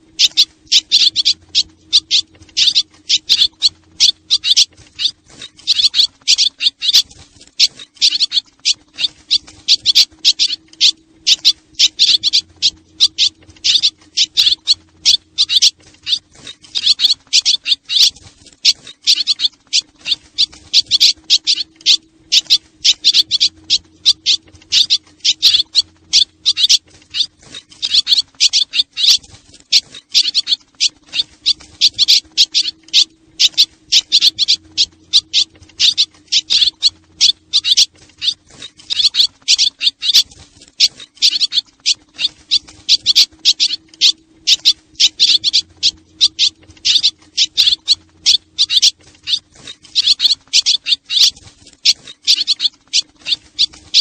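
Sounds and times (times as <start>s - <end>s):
faint low hum: 0.0s - 54.0s
swallows chirping: 0.0s - 54.0s.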